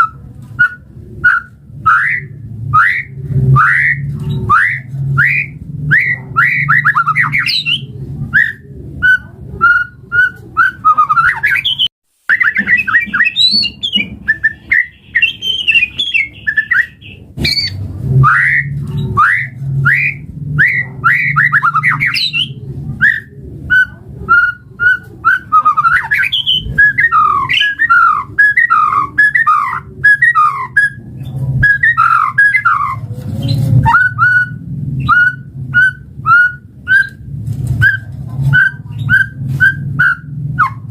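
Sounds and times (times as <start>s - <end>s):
steady low hum: 0.0s - 11.1s, 12.8s - 40.9s
bird singing whistled song: 0.0s - 31.0s, 31.6s - 33.0s, 33.8s - 37.2s, 37.8s - 40.9s.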